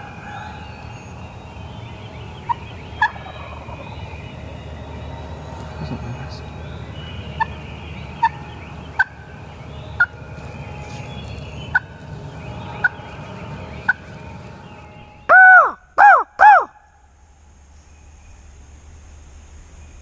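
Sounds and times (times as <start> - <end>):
turkey clucking: 0.0 - 16.6
turkey yelping: 0.0 - 16.8.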